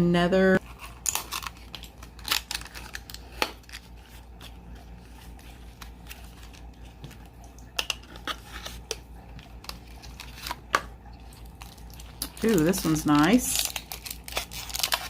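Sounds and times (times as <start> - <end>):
low steady hum: 0.0 - 15.0
packaging crinkling: 0.6 - 15.0.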